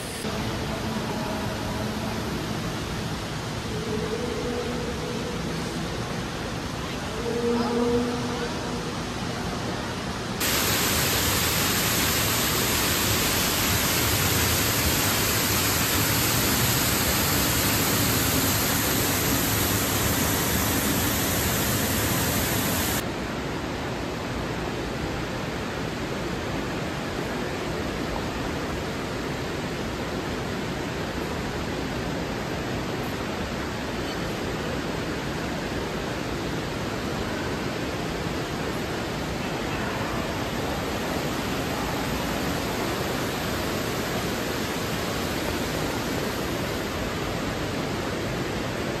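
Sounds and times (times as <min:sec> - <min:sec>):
rushing water: 0:00.0 - 0:49.0.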